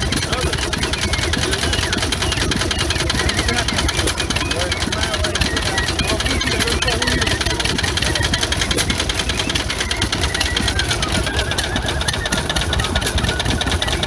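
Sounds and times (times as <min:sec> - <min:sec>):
old engine knocking: 0:00.0 - 0:14.0.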